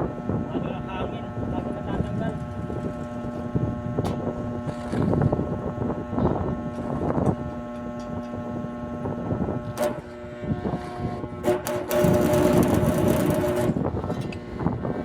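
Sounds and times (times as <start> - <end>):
steady mechanical hum: 0.0 - 15.0
wind buffeting microphone: 0.0 - 15.0.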